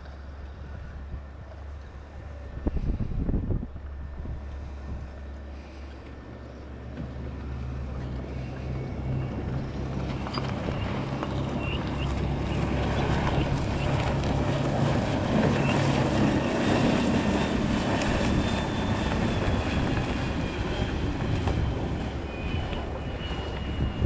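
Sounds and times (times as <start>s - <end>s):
boat engine hum: 0.0s - 24.0s.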